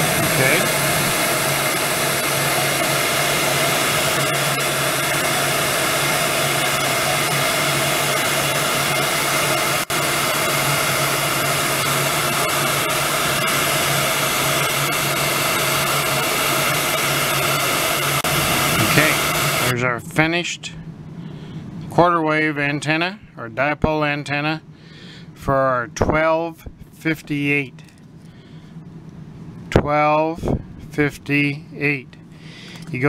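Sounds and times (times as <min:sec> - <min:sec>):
heat gun fan humming: 0:00.0 - 0:25.4, 0:26.0 - 0:33.0.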